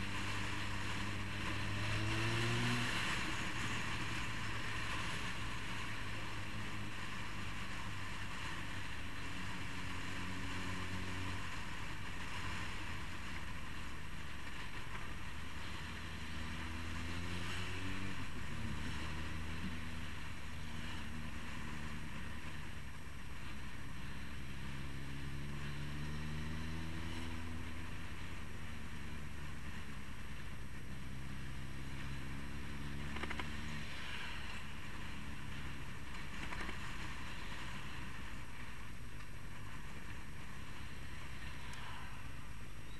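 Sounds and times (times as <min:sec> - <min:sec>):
motorcycle engine accelerating: 0:00.0 - 0:38.7.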